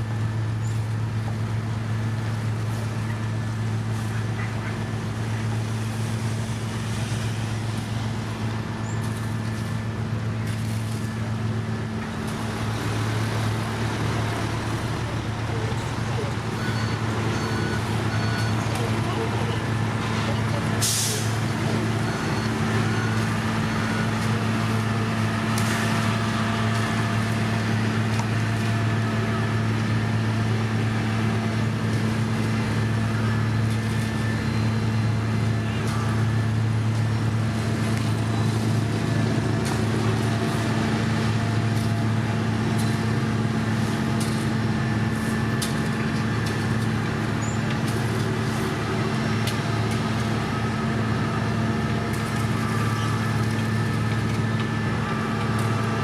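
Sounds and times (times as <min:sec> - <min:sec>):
heavy machinery engine drone: 0:00.0 - 0:56.0.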